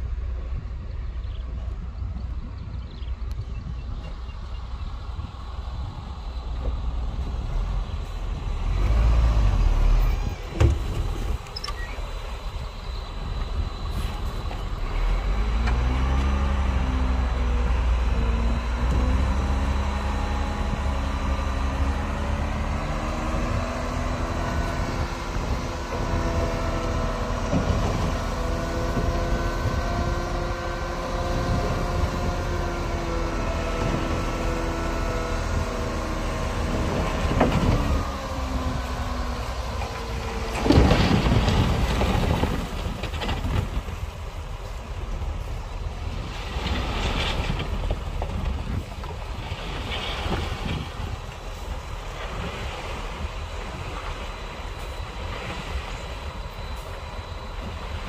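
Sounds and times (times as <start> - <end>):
diesel engine revving: 5.0 - 58.0.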